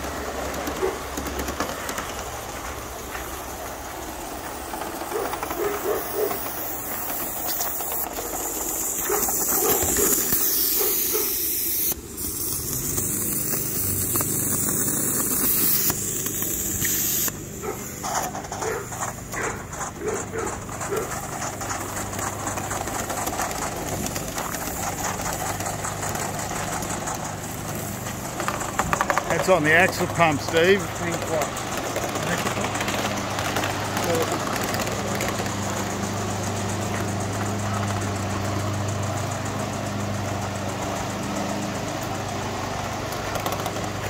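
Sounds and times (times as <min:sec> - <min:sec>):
model locomotive hissing steam: 0:00.0 - 0:44.0.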